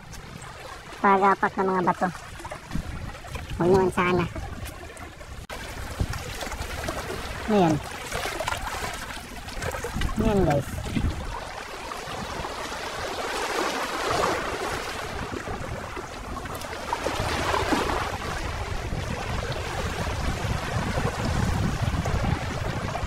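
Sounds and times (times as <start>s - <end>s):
waves splashing against boulders: 0.0s - 23.0s
wind rumbling on microphone: 0.0s - 23.0s.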